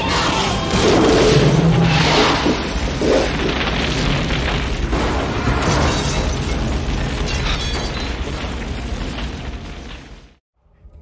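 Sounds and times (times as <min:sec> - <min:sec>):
explosion fireball rumble: 0:00.8 - 0:10.4.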